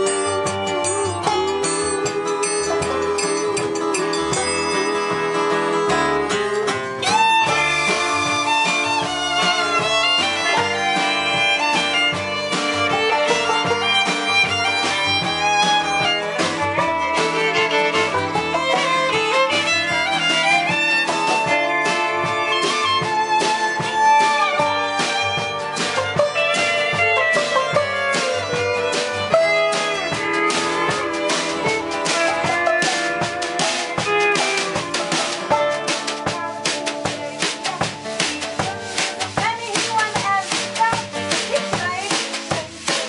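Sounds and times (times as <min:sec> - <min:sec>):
bowed fiddle melody: 0:00.0 - 0:43.0
plucked strings rhythm: 0:00.0 - 0:43.0.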